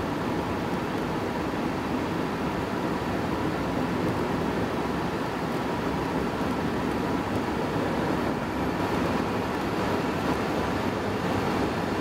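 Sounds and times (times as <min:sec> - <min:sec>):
faint steady whine: 0:00.0 - 0:12.0
roar of wind and tyres: 0:00.0 - 0:12.0.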